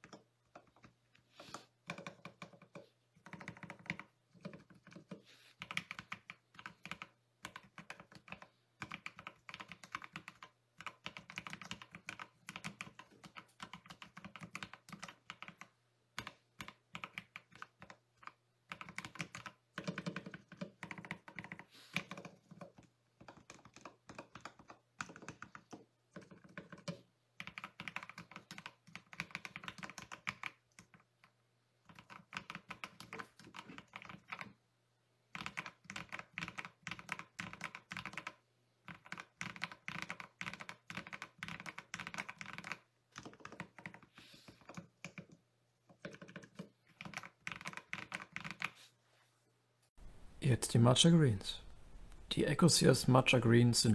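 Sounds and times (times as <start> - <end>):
keyboard typing: 0.0 - 34.6, 35.3 - 48.8, 50.1 - 53.7.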